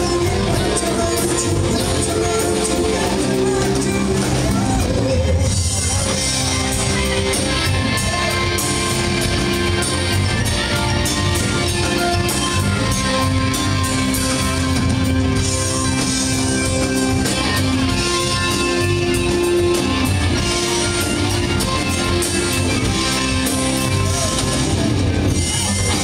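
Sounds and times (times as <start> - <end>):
drum kit: 0.0 - 26.0
electric guitars: 0.0 - 26.0.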